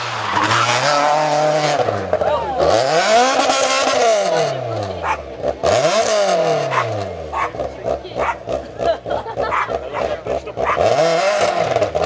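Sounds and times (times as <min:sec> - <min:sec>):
exhaust cracks: 0:00.0 - 0:12.0
rally car engine revving: 0:00.0 - 0:12.0.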